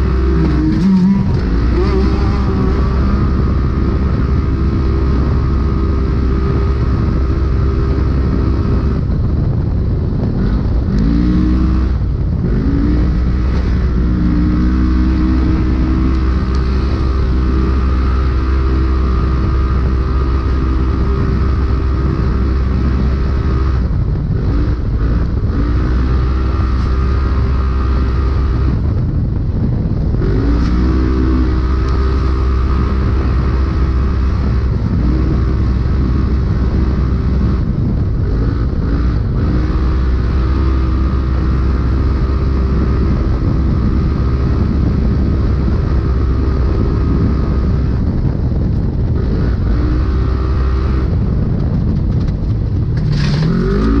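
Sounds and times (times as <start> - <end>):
race engine at high revs: 0.0 - 29.1, 30.0 - 54.0
rush of noise: 0.0 - 54.0.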